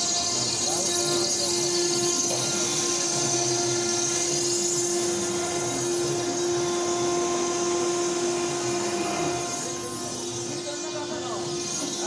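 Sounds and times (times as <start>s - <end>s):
stone-cutting machine whining: 0.0s - 12.0s.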